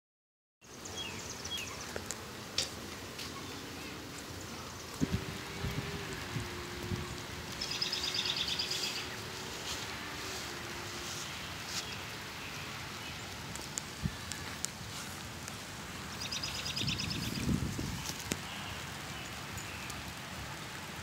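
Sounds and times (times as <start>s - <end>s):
rain falling on foliage: 0.6s - 21.0s.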